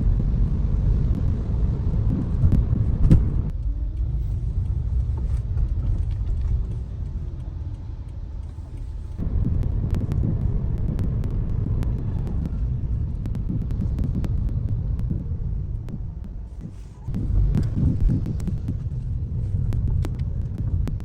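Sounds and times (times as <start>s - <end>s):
car road noise rumble: 0.0s - 21.0s.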